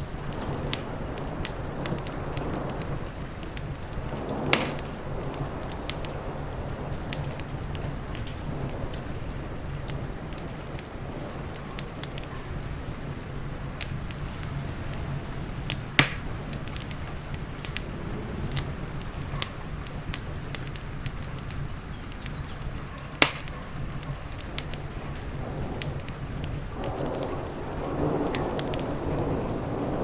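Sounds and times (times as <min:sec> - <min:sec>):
rain hissing: 0:00.0 - 0:30.0
wood fire crackling: 0:00.0 - 0:30.0.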